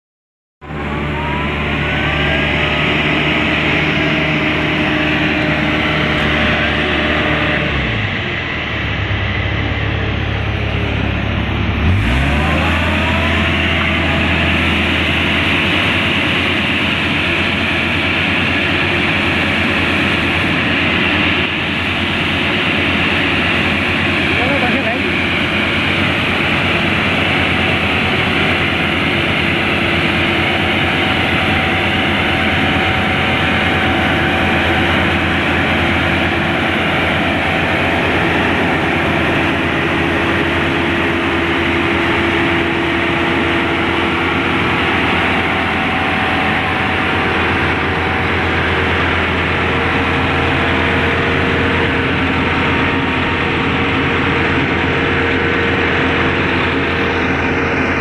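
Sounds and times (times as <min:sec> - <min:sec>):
road sweeper engine drone: 0:00.6 - 0:58.0.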